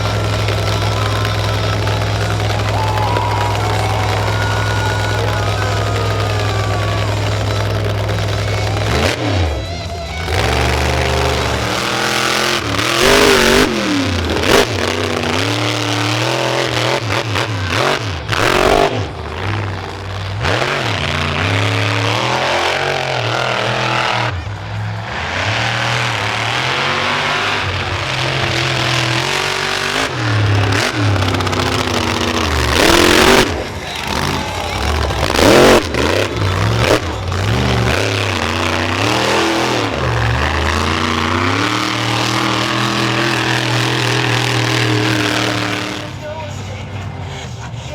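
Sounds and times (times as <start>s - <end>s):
loud rushes of noise: 0.0s - 46.3s
truck engine revving hard: 0.0s - 47.9s.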